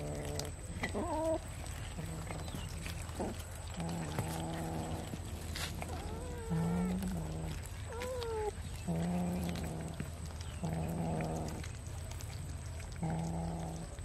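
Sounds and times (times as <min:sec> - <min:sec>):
cats growling and yowling: 0:00.0 - 0:14.0.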